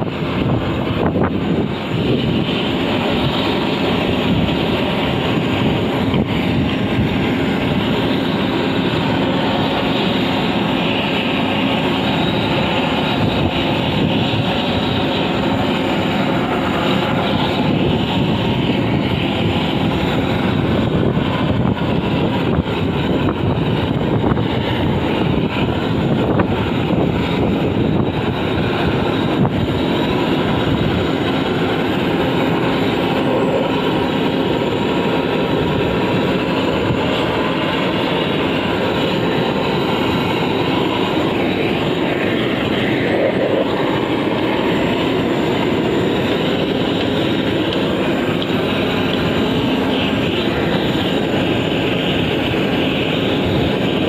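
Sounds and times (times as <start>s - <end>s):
gas torch hissing: 0.0s - 54.0s.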